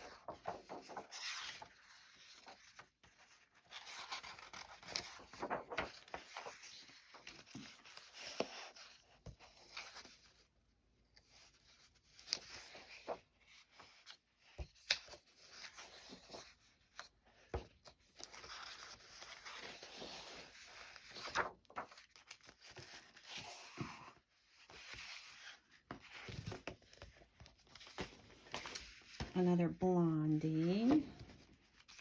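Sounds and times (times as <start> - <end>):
paper rustling and crinkling: 0.0 - 10.5, 11.2 - 29.4, 30.6 - 32.0.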